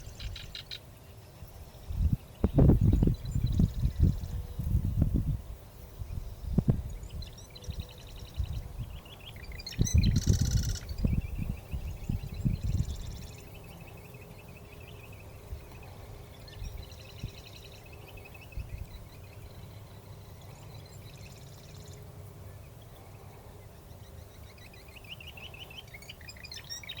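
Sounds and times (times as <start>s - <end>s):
birds chirping and trilling: 0.0s - 5.2s, 6.0s - 27.0s
low wind rumble: 1.4s - 25.7s.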